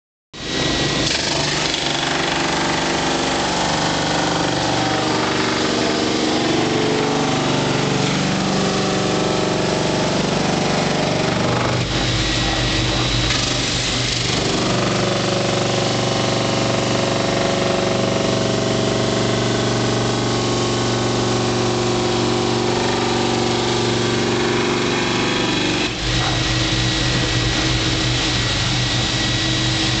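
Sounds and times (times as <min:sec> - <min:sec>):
drum sander sanding wood: 0:01.2 - 0:30.0.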